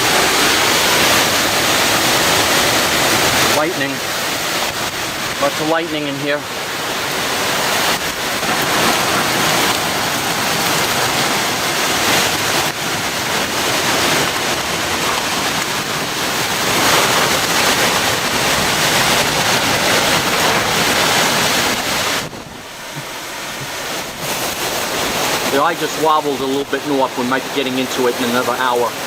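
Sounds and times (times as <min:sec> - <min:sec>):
hurricane wind and rain: 0:00.0 - 0:29.0.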